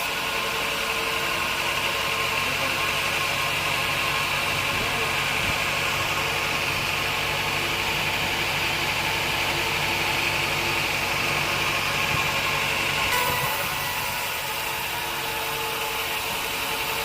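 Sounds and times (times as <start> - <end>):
continuous machinery hiss: 0.0 - 17.0
sawmill engine hum: 0.0 - 17.0.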